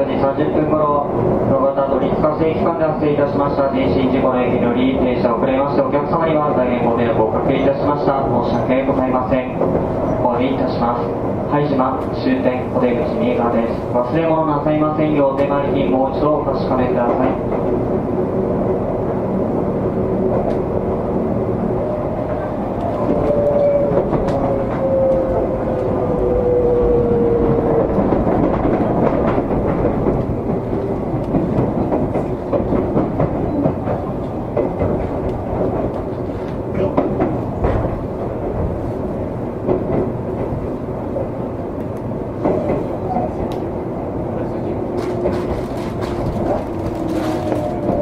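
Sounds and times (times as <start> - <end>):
train wheels on rails: 0.2 - 48.0
rail joint clicks: 0.3 - 19.2, 20.0 - 20.9, 21.6 - 48.0.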